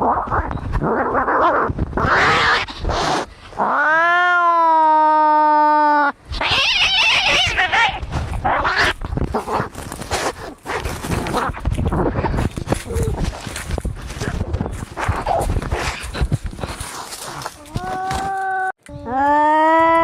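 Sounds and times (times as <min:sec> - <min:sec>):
cats fighting and yowling: 0:00.0 - 0:18.7.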